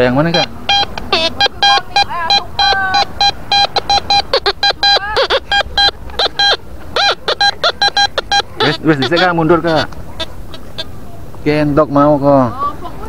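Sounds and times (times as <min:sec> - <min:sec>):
metal detector beeping: 0:00.0 - 0:10.9.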